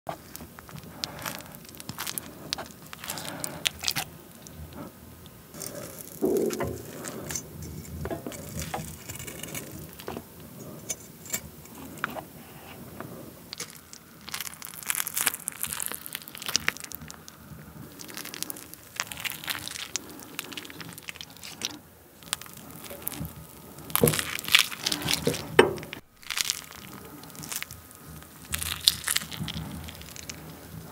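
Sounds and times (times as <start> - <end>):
crackling and tearing cheese: 0.1 - 12.4, 13.3 - 30.9.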